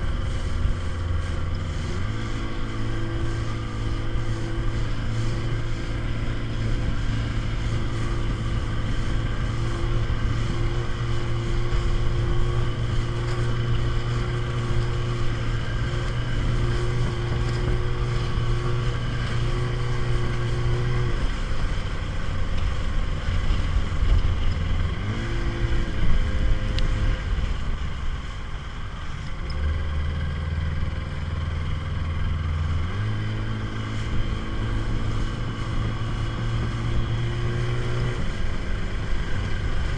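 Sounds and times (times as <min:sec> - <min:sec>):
outboard motorboat engine: 0:00.0 - 0:39.9.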